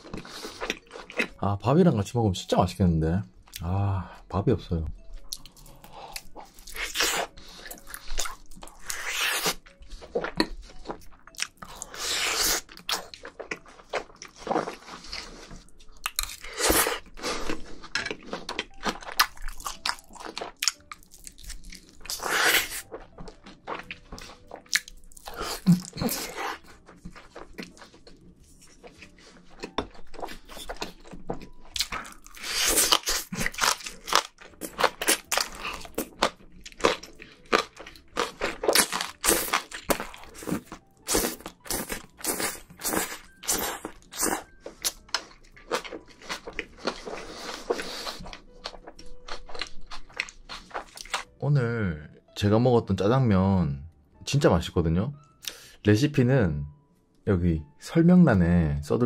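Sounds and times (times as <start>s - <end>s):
person chewing: 0.0s - 1.4s, 5.2s - 51.4s.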